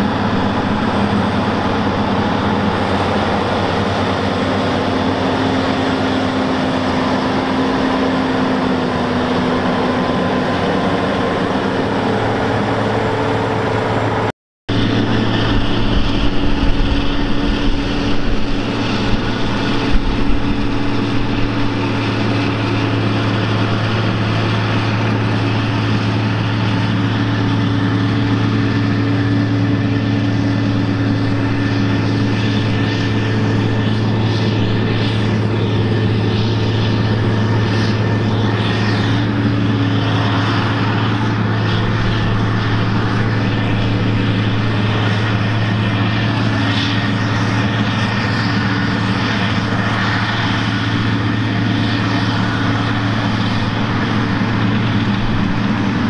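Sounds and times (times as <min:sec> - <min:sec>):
tractor diesel engines running: 0:00.0 - 0:56.0.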